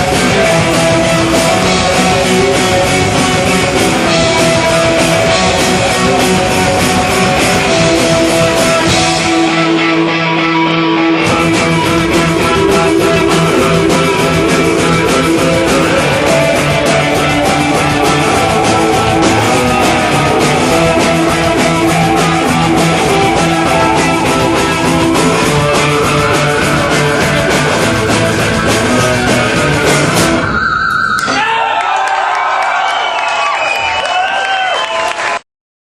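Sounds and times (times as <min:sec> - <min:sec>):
electric guitars: 0:00.0 - 0:31.4
rock band playing live: 0:00.0 - 0:31.4.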